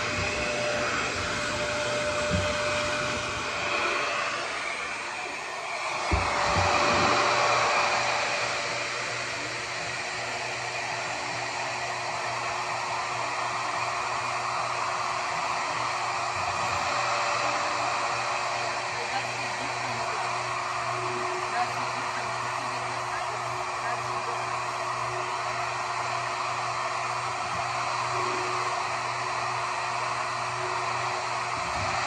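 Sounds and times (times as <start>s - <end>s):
hair dryer blowing: 0.0s - 32.0s.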